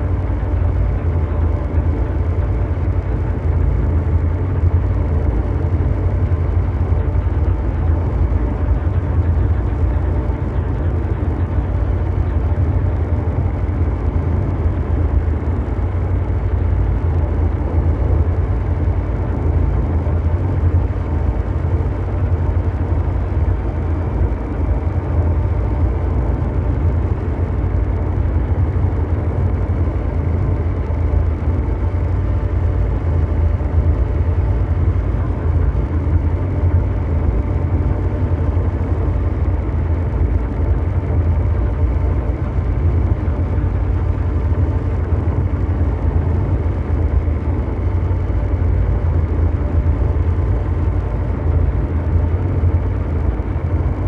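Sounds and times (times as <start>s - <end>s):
deep engine rumble drone: 0.0s - 54.0s
faint steady hum tones: 0.0s - 54.0s.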